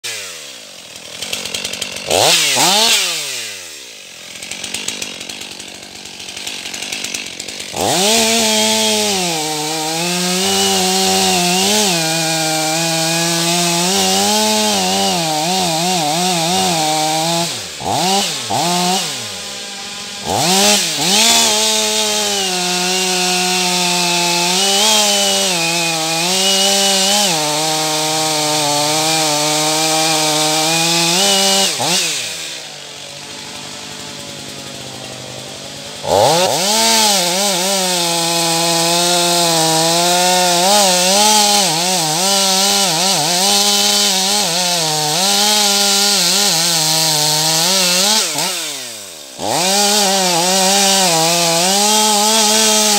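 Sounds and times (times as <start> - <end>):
chainsaw cutting wood: 0.0 - 52.9
chainsaw idling and revving: 0.0 - 52.9.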